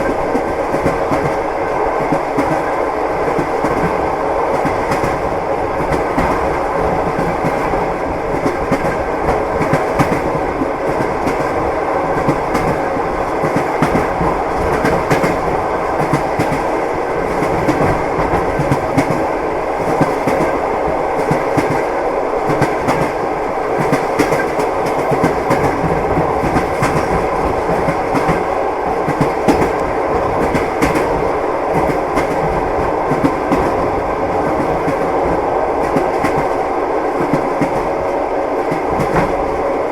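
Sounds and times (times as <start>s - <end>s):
train wheels clattering: 0.0s - 20.6s, 21.2s - 36.6s.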